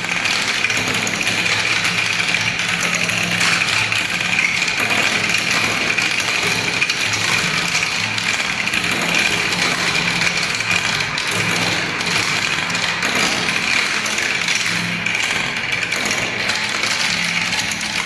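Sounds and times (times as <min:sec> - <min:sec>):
marbles rolling down a ramp: 0:00.0 - 0:18.0.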